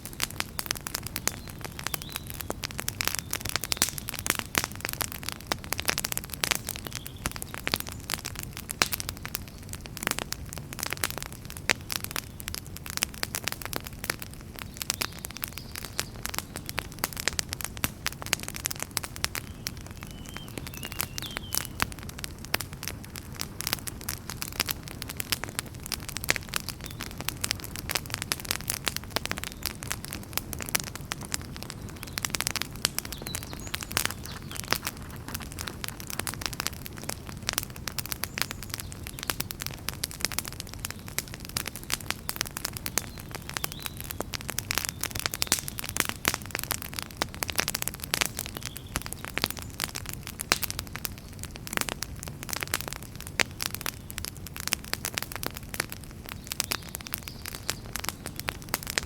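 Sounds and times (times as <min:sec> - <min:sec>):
fire crackling and popping: 0:00.0 - 0:59.0
low rumble of flame: 0:00.0 - 0:59.0.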